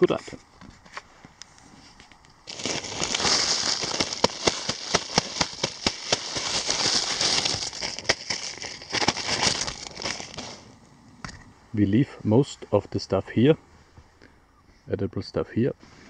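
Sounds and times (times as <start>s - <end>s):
embers hissing and crackling: 0.0s - 16.0s.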